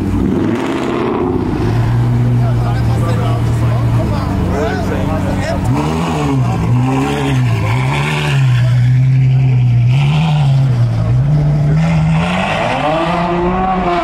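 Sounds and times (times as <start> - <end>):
sports car engine pulling away: 0.0 - 14.0.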